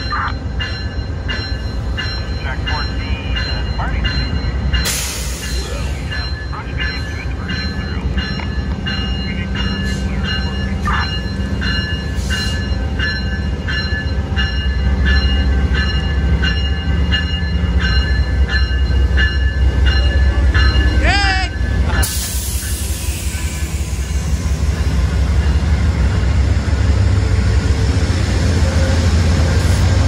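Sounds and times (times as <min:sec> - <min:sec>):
electronic locomotive bell ringing: 0:00.0 - 0:27.0
diesel locomotive rumble: 0:00.0 - 0:30.0.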